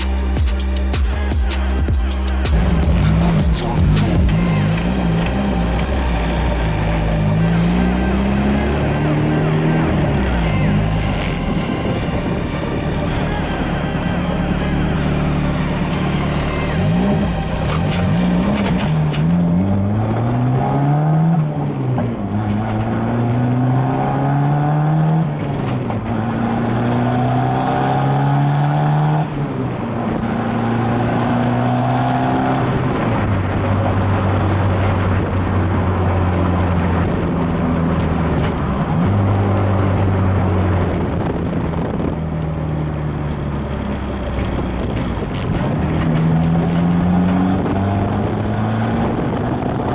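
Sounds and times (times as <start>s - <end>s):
car engine accelerating through gears: 0.0s - 49.9s.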